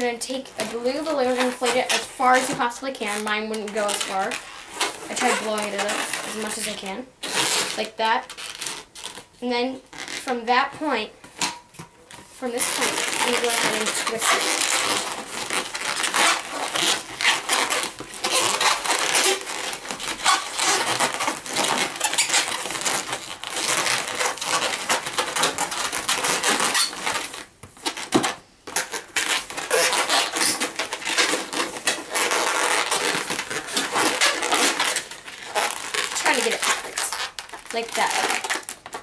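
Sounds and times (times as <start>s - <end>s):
rubber balloon squeaking: 0.0s - 11.0s, 12.1s - 39.0s.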